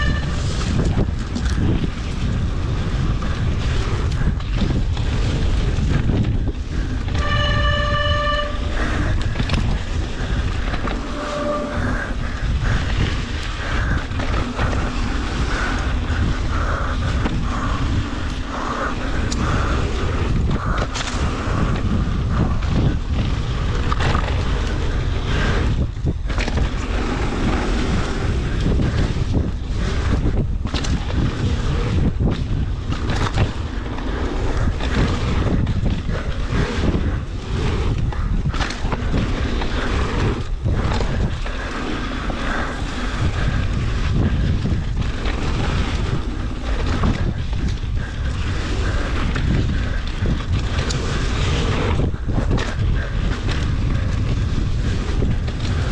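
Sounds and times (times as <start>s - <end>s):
bike knocking and rattling: 0.0s - 55.9s
tyres on loose dirt: 0.0s - 55.9s
wind buffeting microphone: 0.0s - 55.9s.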